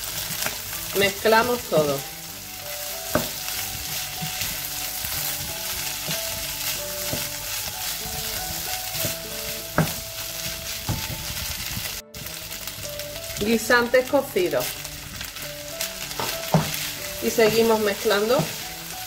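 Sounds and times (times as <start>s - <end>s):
food sizzling in frying pan: 0.0s - 19.0s.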